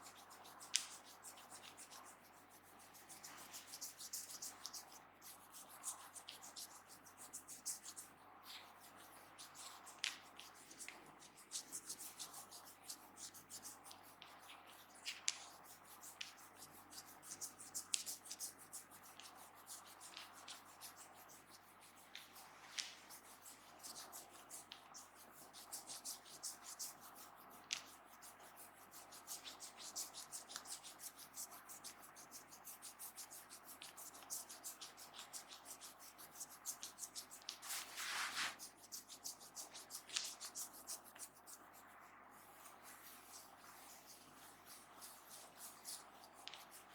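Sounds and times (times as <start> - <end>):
hands rubbing during head massage: 0.0 - 46.9.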